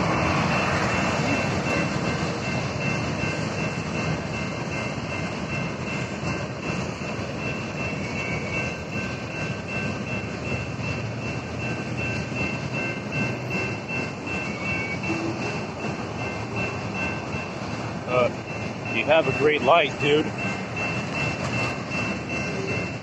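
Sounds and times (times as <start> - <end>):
crossing warning bell ringing: 0.0 - 23.0
freight train wheels rumbling: 0.0 - 23.0.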